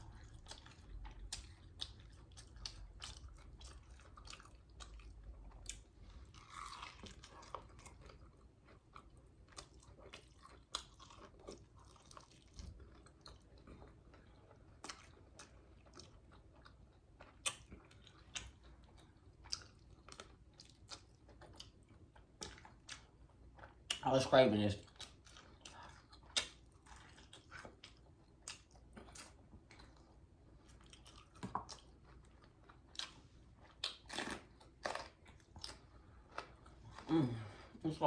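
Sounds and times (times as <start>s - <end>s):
chewing crunchy fried chicken: 0.0s - 37.5s.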